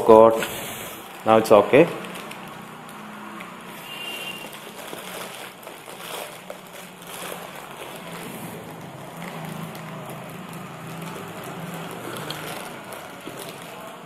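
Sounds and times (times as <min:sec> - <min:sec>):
plastic pouch rustling: 0:01.0 - 0:14.0
scissors cutting plastic: 0:02.0 - 0:14.0.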